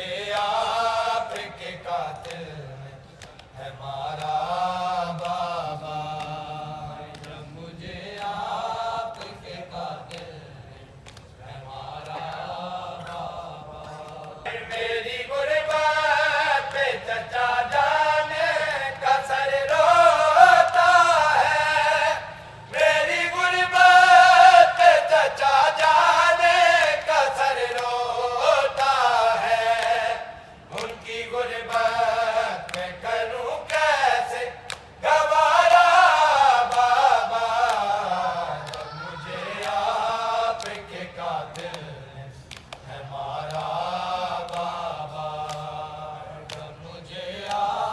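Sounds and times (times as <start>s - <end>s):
men chanting a lament: 0.0s - 47.9s.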